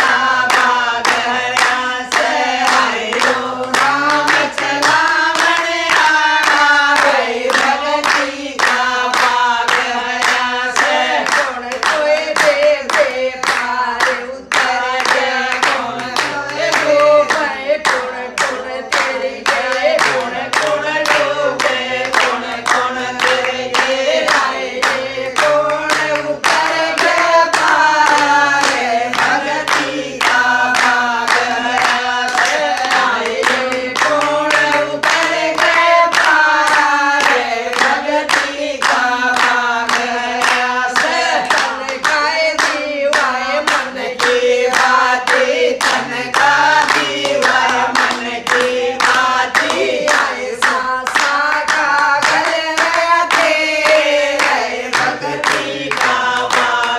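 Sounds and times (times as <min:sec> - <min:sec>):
hands clapping on a beat: 0:00.0 - 0:56.9
women singing in unison: 0:00.0 - 0:56.9.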